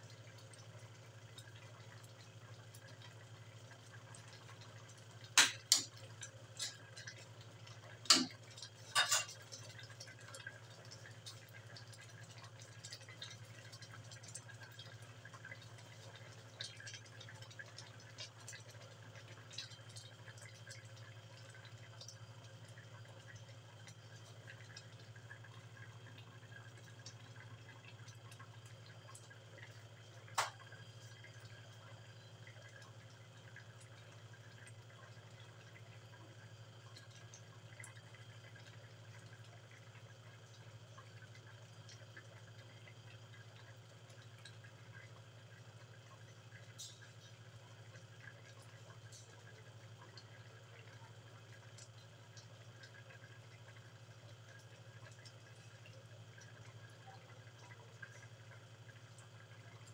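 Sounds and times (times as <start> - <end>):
stew bubbling and popping: 0.0 - 59.9.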